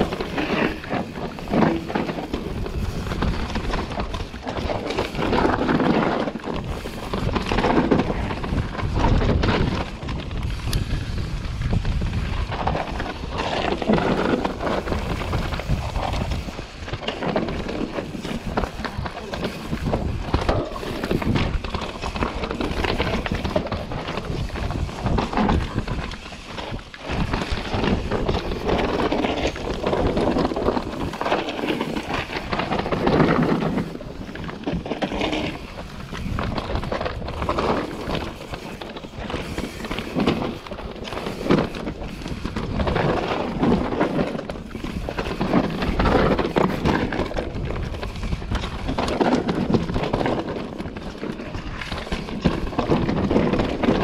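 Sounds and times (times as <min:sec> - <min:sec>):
bike clattering over bumps: 0:00.0 - 0:54.0
bike tyres crunching over dirt: 0:00.0 - 0:54.0.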